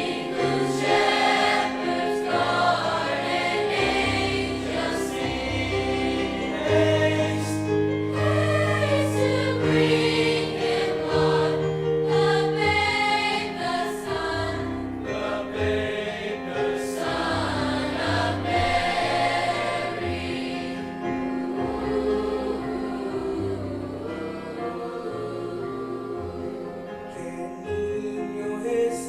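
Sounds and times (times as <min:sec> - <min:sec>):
choir singing sustained notes: 0:00.0 - 0:28.2.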